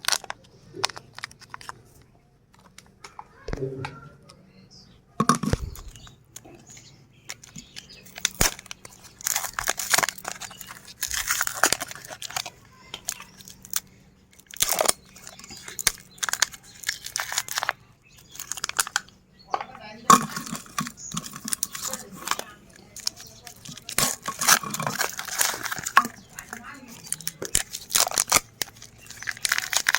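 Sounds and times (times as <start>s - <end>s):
grinder crunching ice cream cones: 0.0s - 3.7s, 5.2s - 29.9s.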